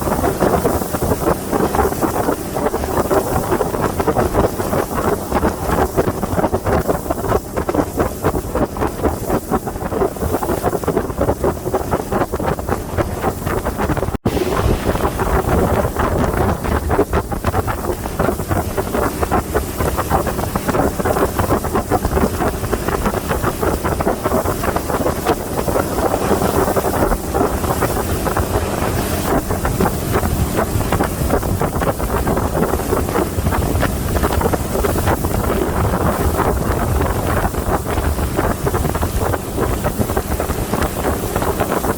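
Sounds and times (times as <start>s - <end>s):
boat engine: 0.0s - 41.9s
water noise: 0.0s - 41.9s
wind buffeting microphone: 0.0s - 41.9s.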